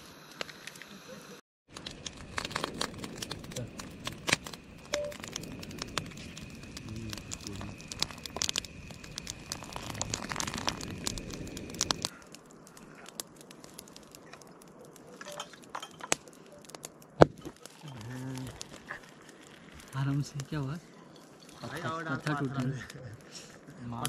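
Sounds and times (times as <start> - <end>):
campfire crackling and popping: 1.7 - 24.0.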